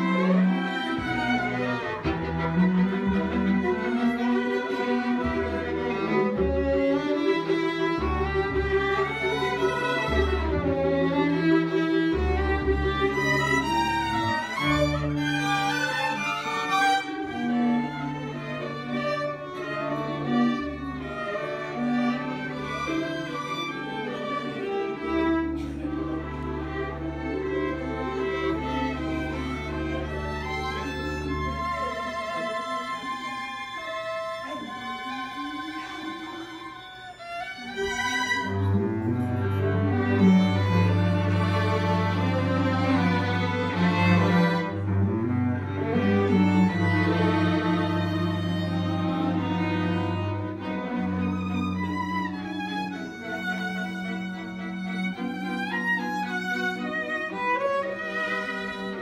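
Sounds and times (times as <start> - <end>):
cellos: 0.0 - 59.0
string ensemble playing classical music: 0.0 - 59.0
violins: 0.0 - 59.0.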